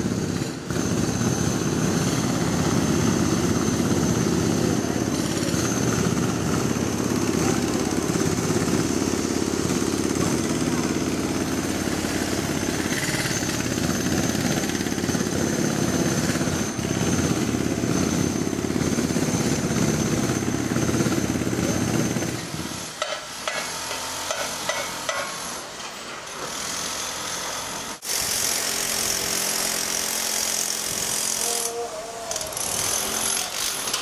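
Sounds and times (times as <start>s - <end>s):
harsh high machine noise: 0.7s - 25.6s, 27.2s - 34.0s.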